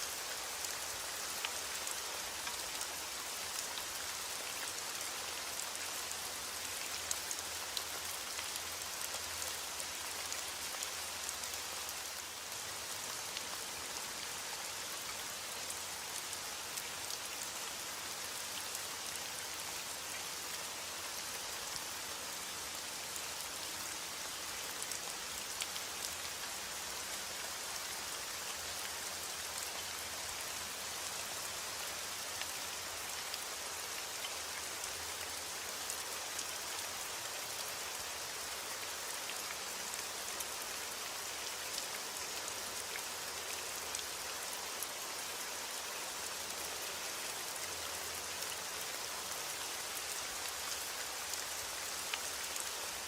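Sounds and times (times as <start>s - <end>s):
rain pattering: 0.1s - 53.0s.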